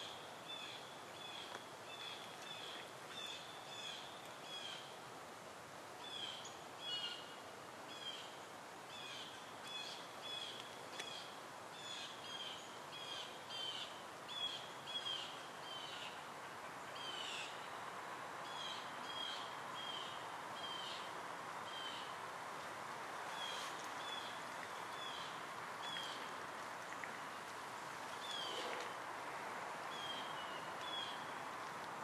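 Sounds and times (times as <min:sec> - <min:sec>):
steady outdoor hiss: 0:00.0 - 0:32.0.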